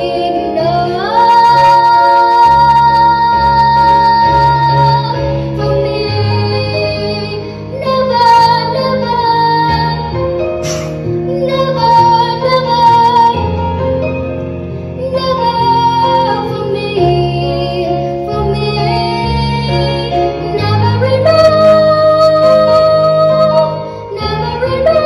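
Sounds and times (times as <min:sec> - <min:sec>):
girl singing a pop ballad: 0:00.0 - 0:25.0.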